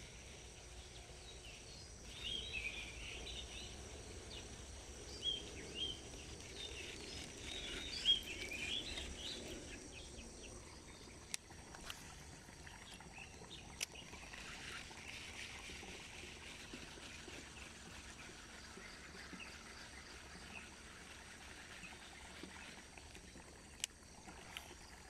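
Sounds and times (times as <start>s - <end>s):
high insect drone: 0.0s - 25.0s
birds chirping: 1.3s - 23.5s.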